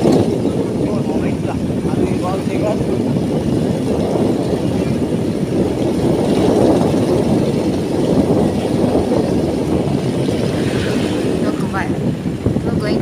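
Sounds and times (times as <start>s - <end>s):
motorcycle low rumble: 0.0s - 13.0s.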